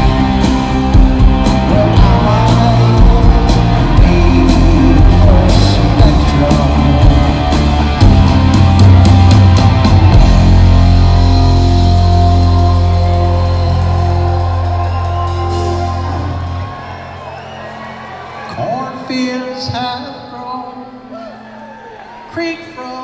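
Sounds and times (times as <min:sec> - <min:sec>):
live rock band: 0:00.0 - 0:19.9.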